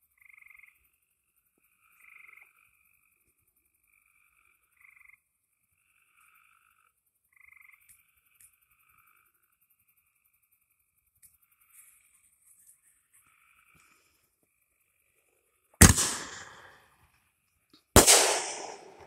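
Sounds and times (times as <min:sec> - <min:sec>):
frogs trilling: 0:00.0 - 0:15.8
insects chirping: 0:00.0 - 0:19.0.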